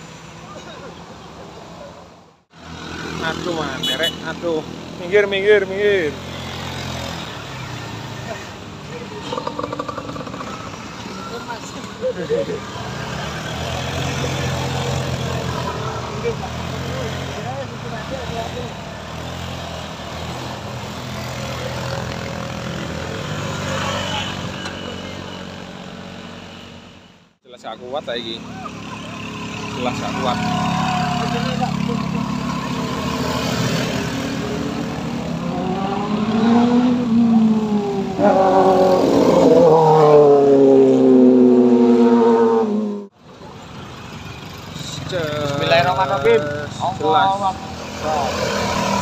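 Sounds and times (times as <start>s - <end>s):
road noise: 0.0s - 49.0s
vehicle engines droning: 0.0s - 49.0s.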